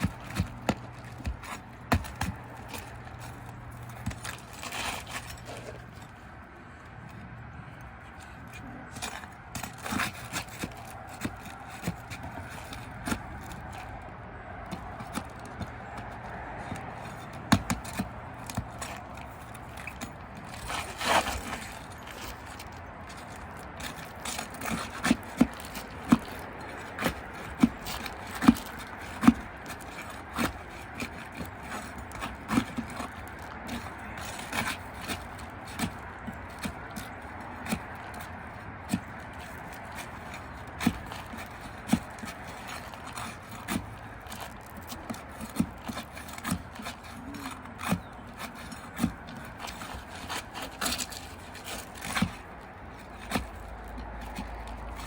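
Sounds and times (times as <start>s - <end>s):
tool scraping shingles: 0.0s - 55.0s.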